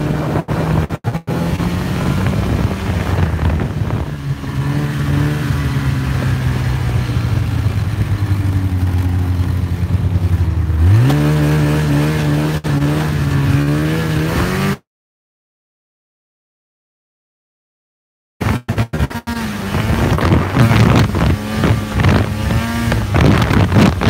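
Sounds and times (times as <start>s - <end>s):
snowmobile engine running: 0.0s - 14.8s, 18.4s - 24.0s.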